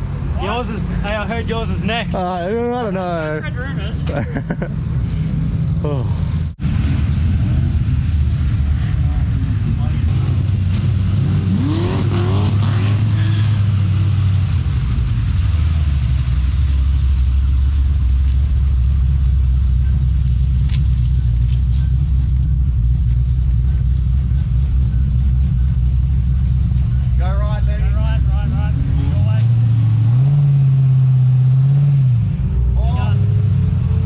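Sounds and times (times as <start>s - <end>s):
car engine running: 0.5s - 34.0s.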